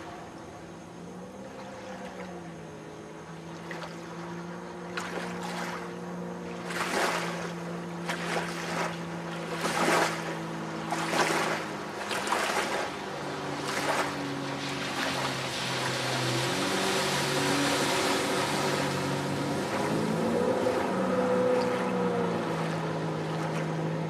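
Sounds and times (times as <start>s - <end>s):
jet ski engine drone: 0.0s - 24.0s
spray rushing and hull slapping water: 0.0s - 24.0s.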